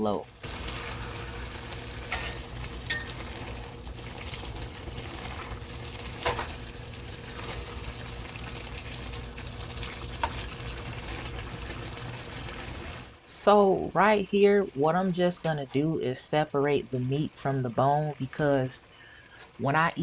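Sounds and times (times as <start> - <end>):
pot boiling on stove: 0.0 - 20.0.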